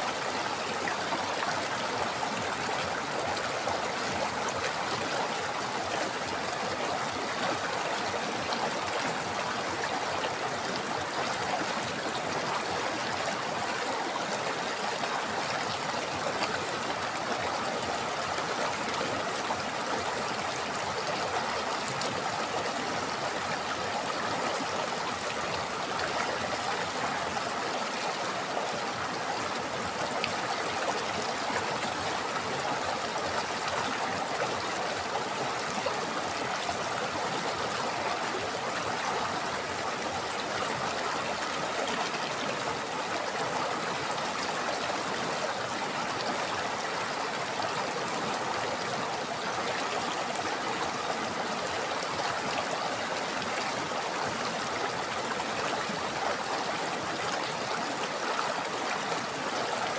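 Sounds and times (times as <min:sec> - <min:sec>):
river flowing over rocks: 0:00.0 - 0:59.9.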